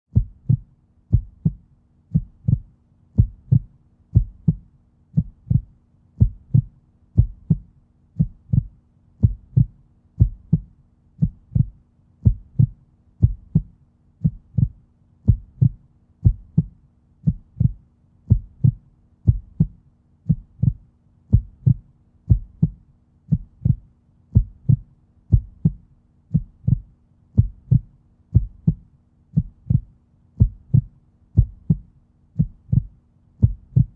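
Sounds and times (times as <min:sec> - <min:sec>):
heartbeat thumps: 0:00.1 - 0:33.9.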